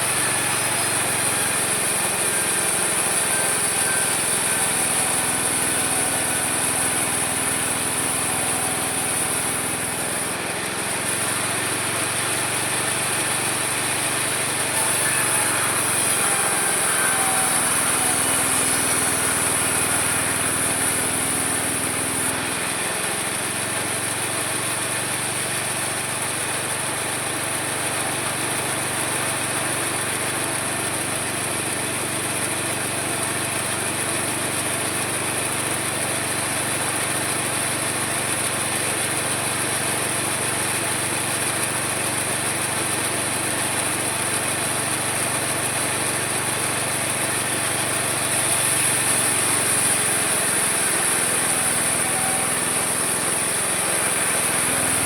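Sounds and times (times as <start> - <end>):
sawmill humming and whining: 0.0 - 55.0.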